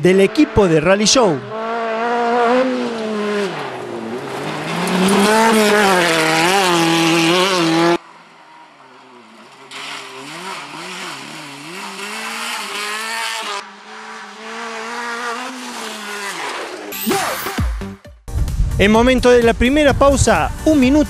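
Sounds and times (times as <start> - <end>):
buggy engines revving: 0.0 - 17.4.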